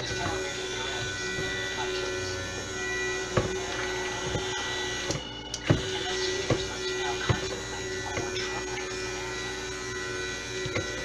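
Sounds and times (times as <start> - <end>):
stick blender motor running: 0.0 - 11.0.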